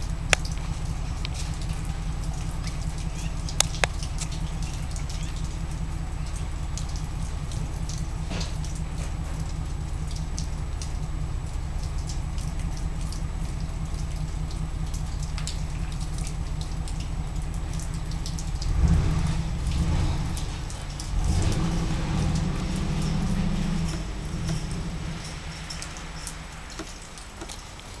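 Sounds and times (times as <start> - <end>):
car engine idling from inside: 0.0 - 28.0
faint ticks: 0.0 - 28.0.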